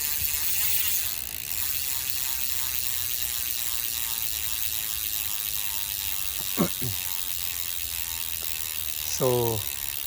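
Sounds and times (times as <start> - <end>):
bicycle hub ratcheting buzz: 0.0 - 10.0.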